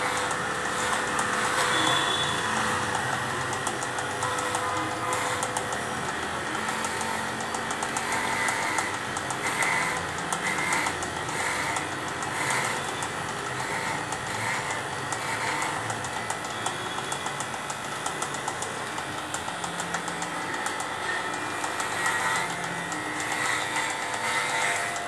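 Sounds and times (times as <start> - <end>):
electric pet clipper running: 0.0 - 25.0.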